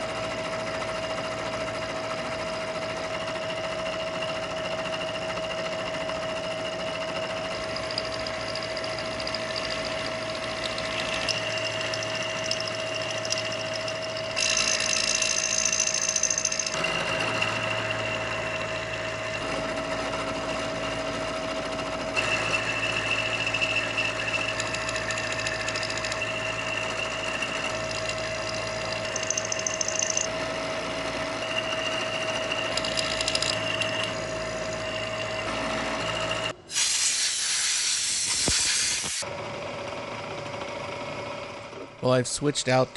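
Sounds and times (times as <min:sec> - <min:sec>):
milling machine whining: 0:00.0 - 0:36.6
end mill cutting metal: 0:01.2 - 0:36.6.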